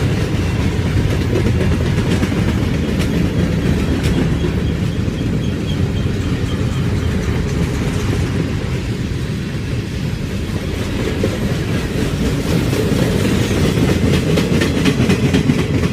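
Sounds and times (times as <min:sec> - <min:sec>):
freight train rumbling: 0:00.0 - 0:15.9
wheels clacking over rail joints: 0:00.0 - 0:15.9.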